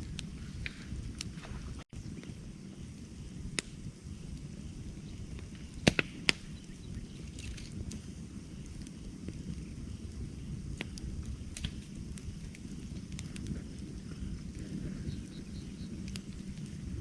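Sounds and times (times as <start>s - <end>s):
campfire crackling: 0.0s - 17.0s
fire popping: 0.0s - 17.0s.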